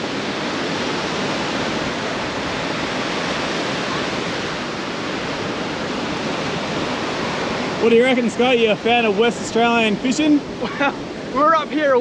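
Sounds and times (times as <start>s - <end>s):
surf washing onto beach: 0.0s - 12.0s
wind: 0.0s - 12.0s.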